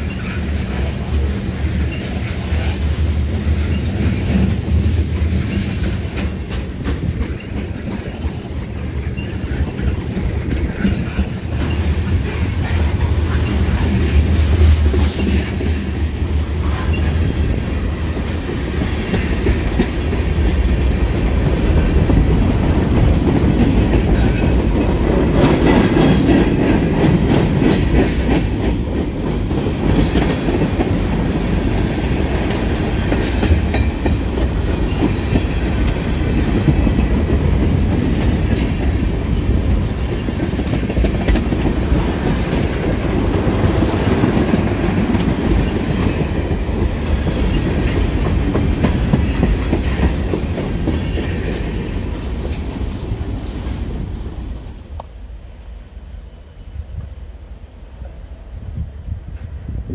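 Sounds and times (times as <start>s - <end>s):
wheels clicking over rail joints: 0.0s - 54.1s
freight train rumbling past: 0.0s - 59.9s.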